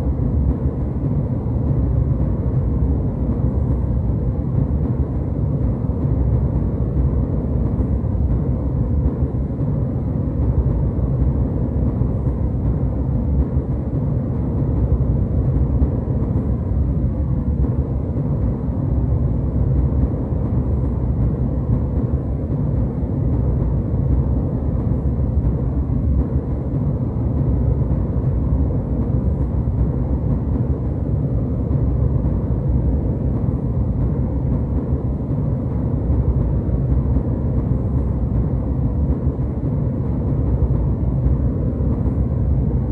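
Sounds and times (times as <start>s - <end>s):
jet airliner cabin rumble: 0.0s - 42.9s.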